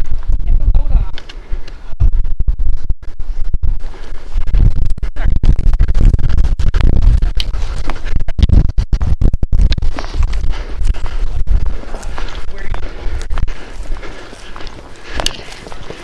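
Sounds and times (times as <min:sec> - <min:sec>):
microphone rubbing and buffeting: 0:00.0 - 0:16.0.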